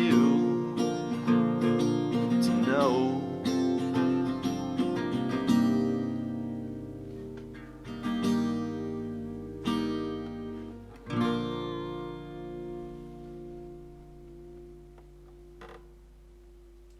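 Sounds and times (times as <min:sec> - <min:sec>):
acoustic guitar strumming: 0:00.0 - 0:16.9.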